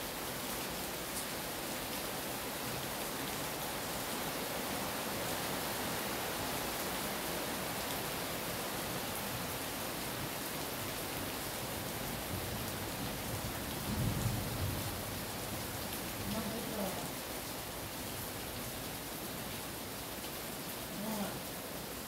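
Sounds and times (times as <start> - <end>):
rain on leaves: 0.0 - 22.0.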